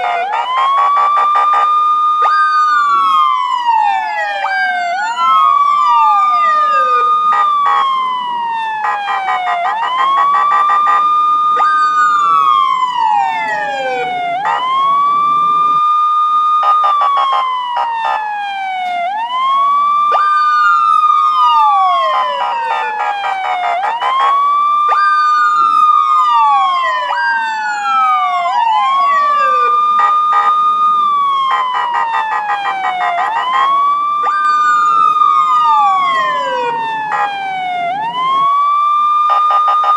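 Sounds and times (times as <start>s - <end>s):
police siren wailing: 0.0s - 39.9s
second siren: 0.0s - 39.9s.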